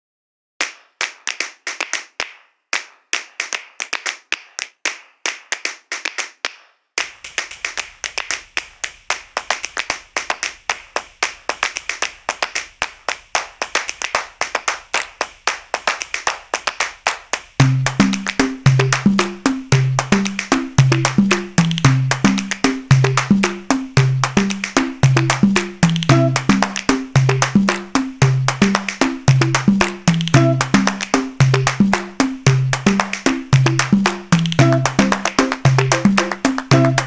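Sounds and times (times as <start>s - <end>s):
handclap-like percussion: 0.6s - 37.0s.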